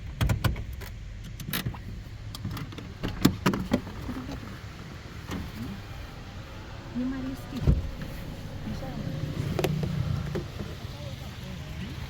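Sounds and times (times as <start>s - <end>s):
sharp clicks and clunks in a car: 0.0s - 6.0s, 6.9s - 12.0s.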